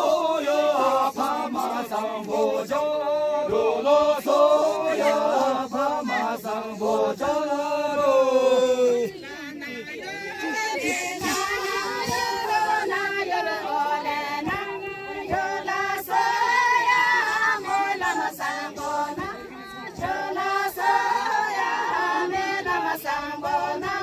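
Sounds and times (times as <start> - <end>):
women and men singing together: 0.0 - 24.0.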